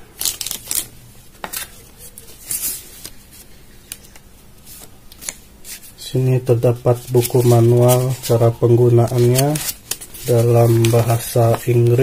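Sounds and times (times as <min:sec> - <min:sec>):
plastic wrapping crinkling: 0:00.0 - 0:05.9, 0:06.8 - 0:12.0.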